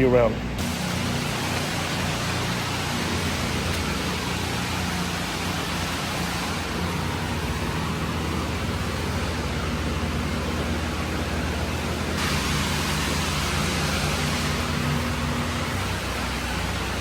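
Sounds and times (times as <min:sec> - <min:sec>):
low machine hum: 0:00.0 - 0:17.0
pressure washer spraying water: 0:00.6 - 0:17.0.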